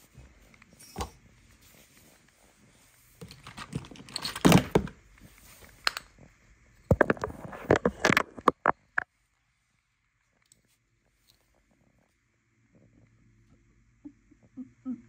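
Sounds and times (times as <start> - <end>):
rustling and crinkling handling noise: 0.0 - 12.2.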